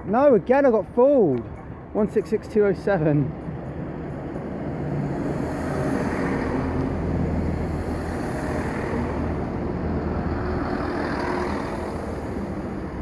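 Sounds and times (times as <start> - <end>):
train wheels on track: 1.2 - 13.0
diesel train engine drone: 1.3 - 13.0.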